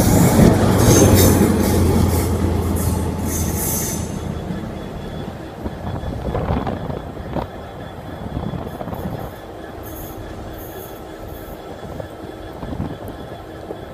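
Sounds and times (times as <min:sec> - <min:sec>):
diesel train engine rumble: 0:00.0 - 0:13.9
high-pitched squeals: 0:00.0 - 0:13.9
wheel-on-rail noise: 0:00.0 - 0:13.9.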